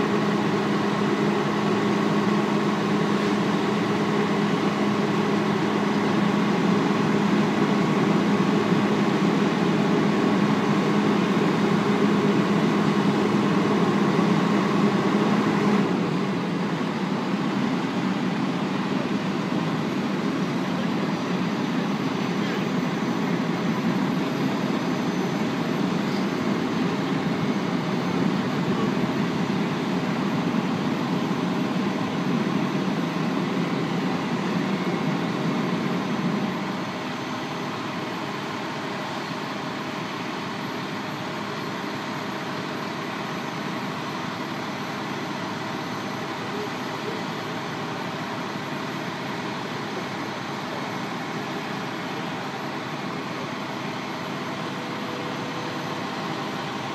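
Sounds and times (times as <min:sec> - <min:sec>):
diesel engines idling: 0:00.0 - 0:56.9.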